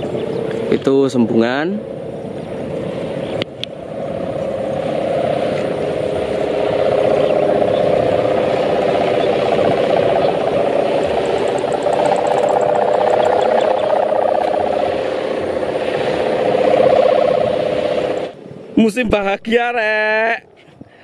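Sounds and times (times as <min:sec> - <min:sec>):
kite hummer buzzing in wind: 0:00.0 - 0:18.9.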